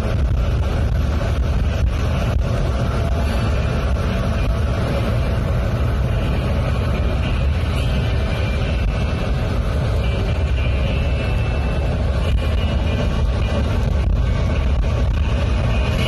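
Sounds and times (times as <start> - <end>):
vehicle driving at highway speed: 0.0 - 16.0.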